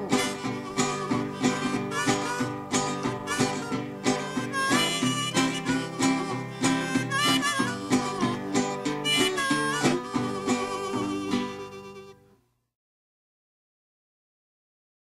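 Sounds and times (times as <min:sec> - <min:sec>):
blues harmonica bending notes: 0:00.0 - 0:12.3
picked guitar: 0:00.0 - 0:12.4.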